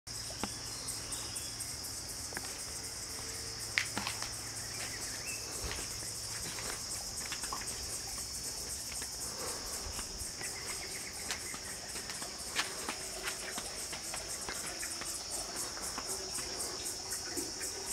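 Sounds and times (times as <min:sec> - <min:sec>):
insects chirring: 0:00.1 - 0:17.9.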